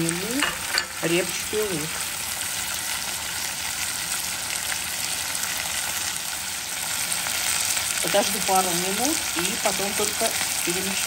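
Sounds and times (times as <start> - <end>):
meat sizzling in oil with crackles: 0.0 - 11.0.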